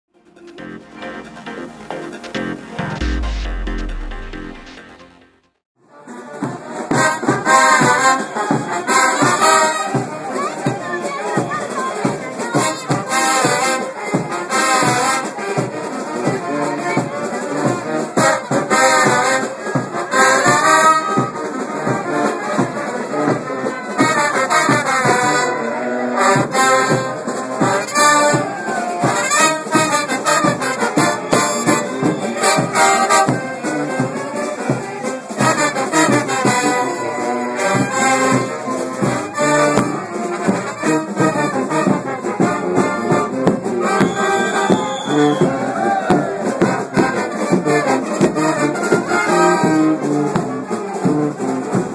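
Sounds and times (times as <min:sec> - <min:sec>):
percussion beat: 0:00.2 - 0:05.5, 0:06.2 - 0:25.6, 0:26.3 - 0:51.9
brass band playing: 0:00.2 - 0:51.9.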